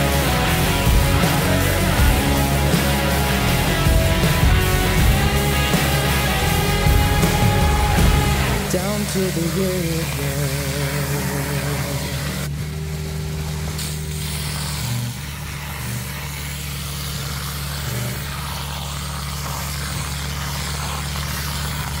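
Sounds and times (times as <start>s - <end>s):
engine and vacuum drone: 0.0s - 22.0s
high-pressure water hiss: 0.0s - 22.0s.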